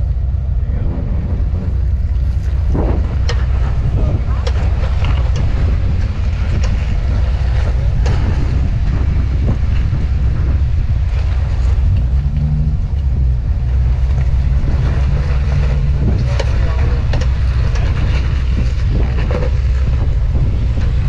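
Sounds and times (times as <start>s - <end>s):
car engine running: 0.0s - 21.0s
wind buffeting microphone: 0.0s - 21.0s.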